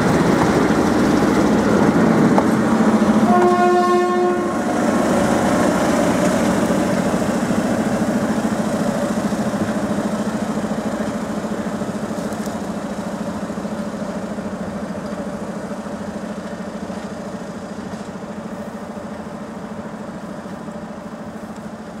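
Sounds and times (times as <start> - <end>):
diesel locomotive engine idling: 0.0 - 22.0.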